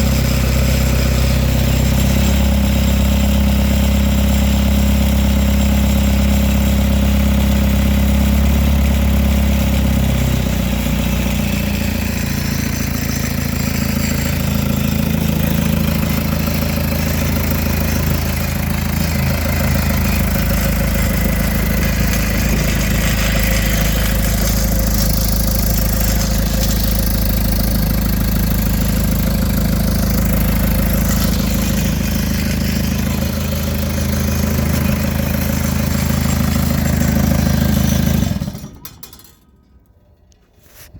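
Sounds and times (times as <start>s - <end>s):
diesel engine running: 0.0s - 40.6s.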